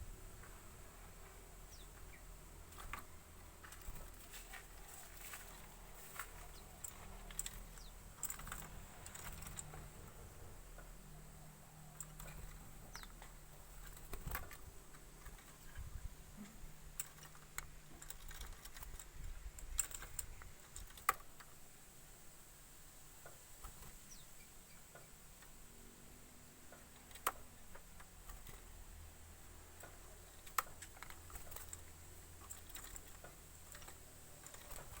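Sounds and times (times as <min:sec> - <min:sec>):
caged bird clicking and tapping: 0:00.4 - 0:15.8, 0:16.4 - 0:21.6, 0:23.2 - 0:25.7, 0:26.4 - 0:35.0.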